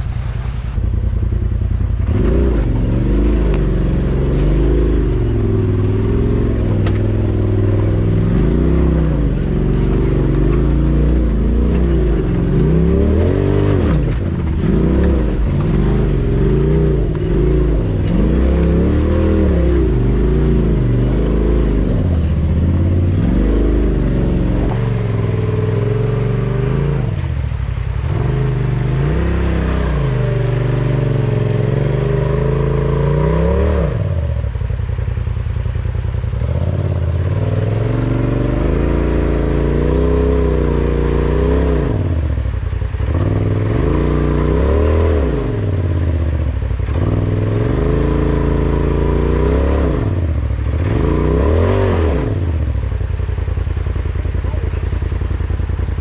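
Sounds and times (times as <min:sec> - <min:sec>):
engine revving under load: 0:00.0 - 0:34.8, 0:36.2 - 0:56.0.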